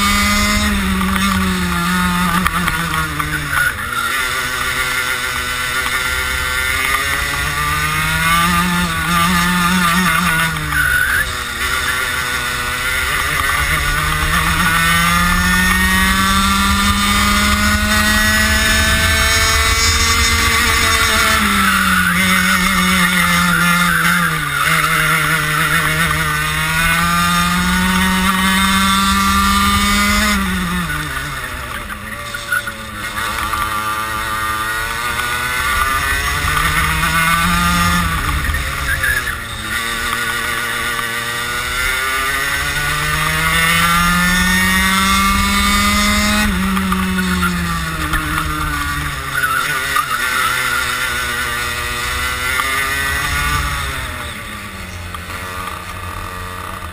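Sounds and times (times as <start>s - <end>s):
kart engine at speed: 0.0s - 56.9s.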